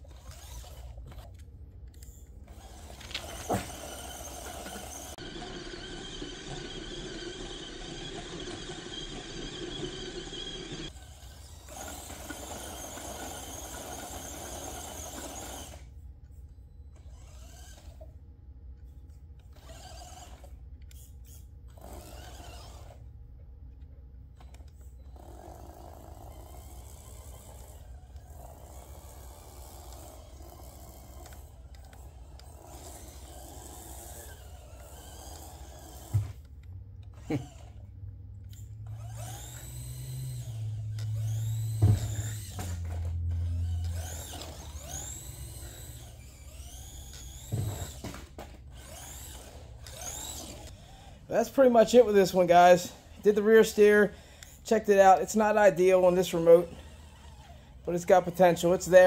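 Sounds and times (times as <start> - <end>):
toy truck electric motor whining: 0.0 - 18.2, 18.8 - 23.2, 24.2 - 59.0.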